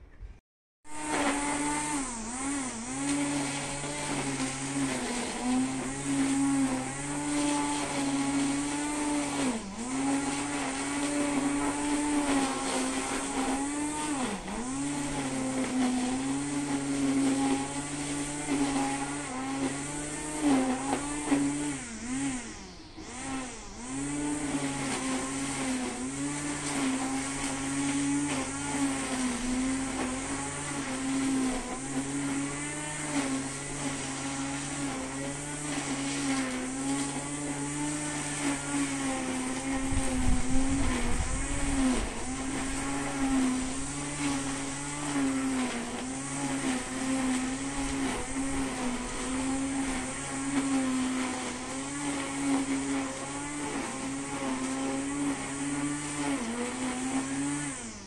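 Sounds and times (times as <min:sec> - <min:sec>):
string trimmer engine running: 0:00.9 - 0:58.0.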